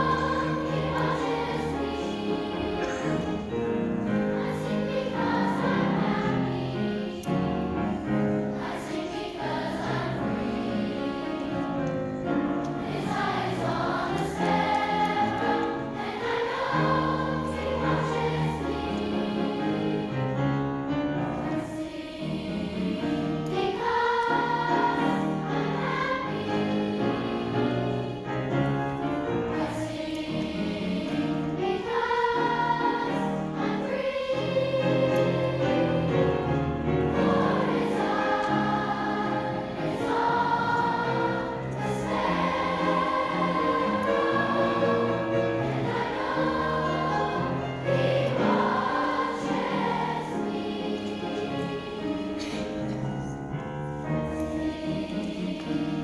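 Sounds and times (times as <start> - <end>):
children's choir singing: 0.0 - 56.0
grand piano: 0.0 - 56.0.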